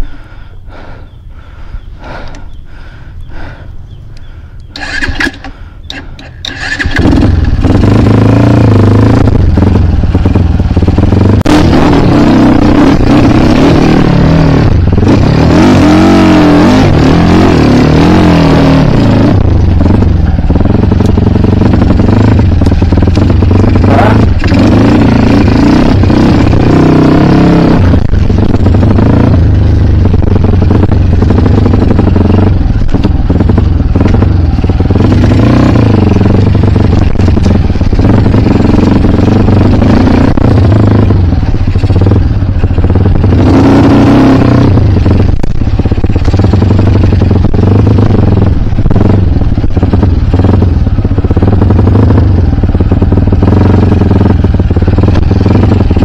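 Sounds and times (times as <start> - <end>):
dirt bike engine revving: 4.7 - 56.0.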